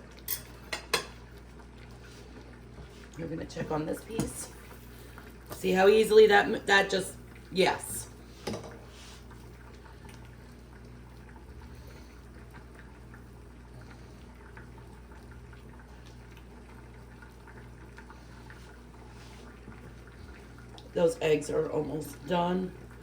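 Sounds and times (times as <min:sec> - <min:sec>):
food crackling and bubbling: 0:00.0 - 0:23.0.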